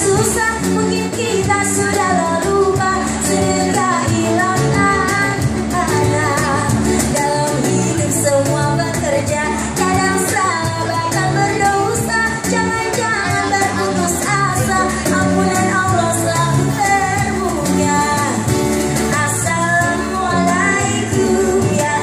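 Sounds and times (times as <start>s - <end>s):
cajon beat: 0.0s - 22.0s
guitars: 0.0s - 22.0s
woman singing into microphone: 0.0s - 22.0s.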